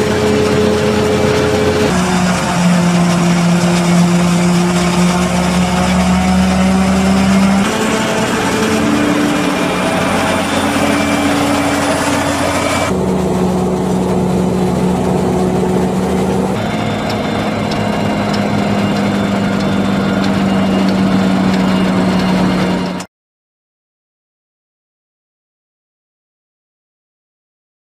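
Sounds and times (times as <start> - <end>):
harvester engine drone: 0.0 - 23.1.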